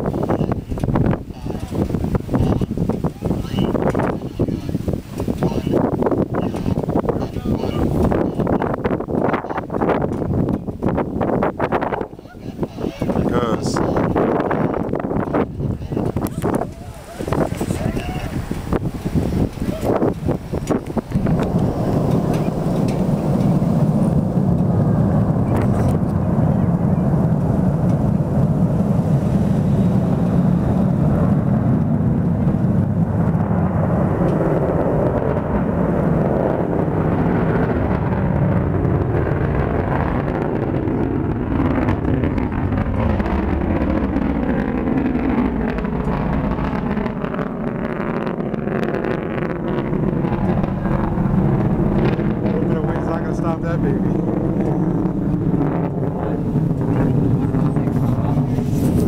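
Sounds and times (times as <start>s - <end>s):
rocket launch rumble: 0.0s - 59.0s.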